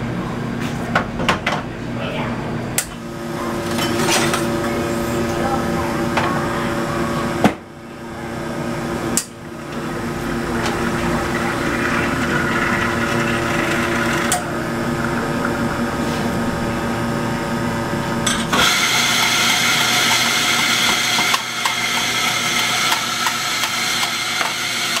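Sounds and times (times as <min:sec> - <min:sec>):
machine hum: 0:01.8 - 0:25.0.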